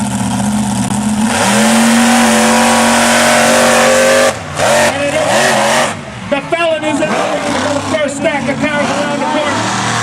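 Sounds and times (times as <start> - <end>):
truck engine revving high: 0.0 - 10.0.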